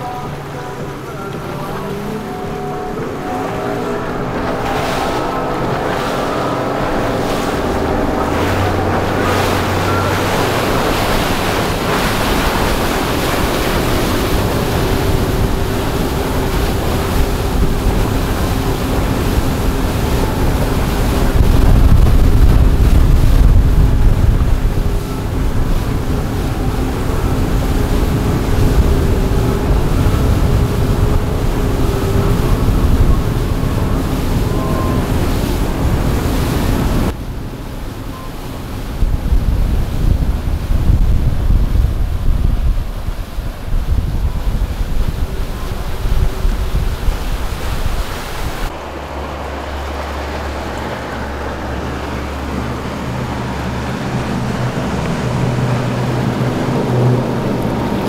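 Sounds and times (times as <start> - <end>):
outboard motors humming: 0.0 - 58.0
rush of hull spray: 0.0 - 58.0
wind buffeting microphone: 0.0 - 58.0.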